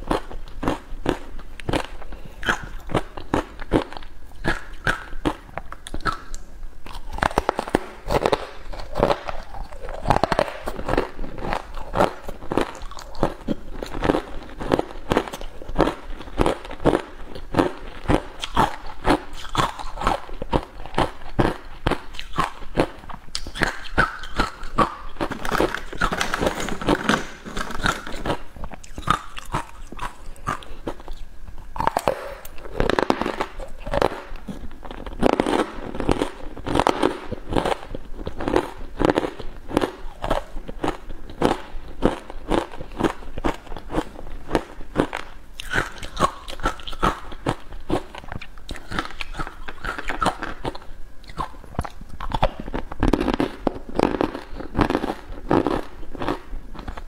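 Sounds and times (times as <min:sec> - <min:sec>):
ice crunching in mouth: 0:00.0 - 0:57.0.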